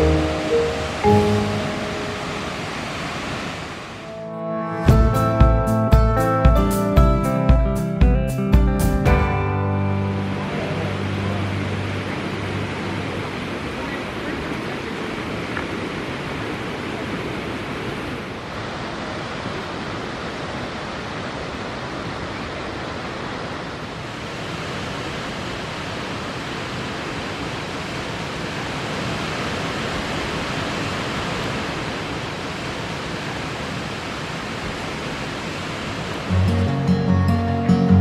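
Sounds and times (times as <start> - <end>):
waterfall rushing: 0.0 - 5.4, 9.4 - 37.8.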